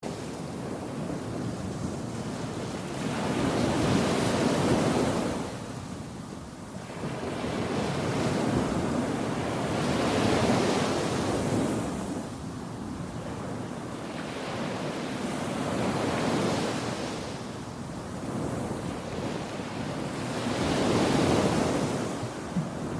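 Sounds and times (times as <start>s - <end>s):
surf washing on shore: 0.0s - 22.9s
wind noise on microphone: 0.0s - 22.9s.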